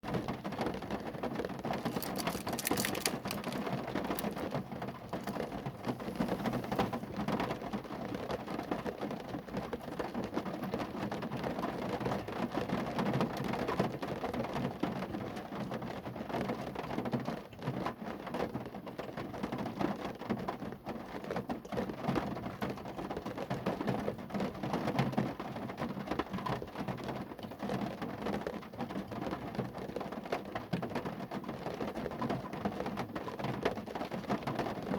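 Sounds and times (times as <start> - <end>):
rain drumming on a car roof: 0.0 - 34.9.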